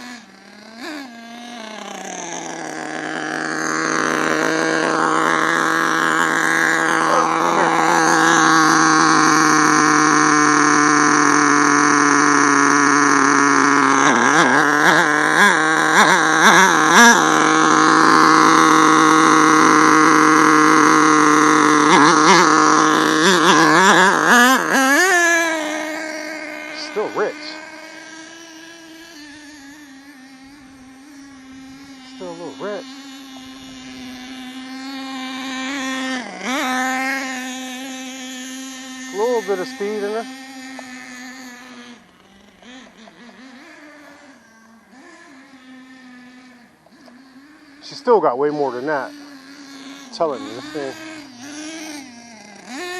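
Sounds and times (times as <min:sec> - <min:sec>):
nitro rc truck engine revving: 0:00.0 - 0:52.9.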